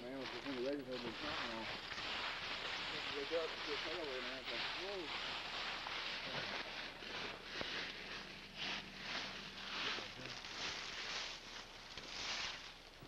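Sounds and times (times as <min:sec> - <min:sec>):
footsteps on rocky trail: 0:00.0 - 0:12.8
clothing rustle: 0:00.1 - 0:13.0.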